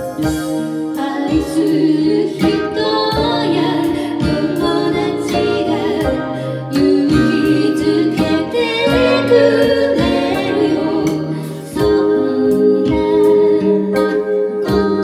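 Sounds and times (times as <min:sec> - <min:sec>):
keyboard: 0:00.0 - 0:15.0
woman singing into microphone: 0:00.0 - 0:15.0.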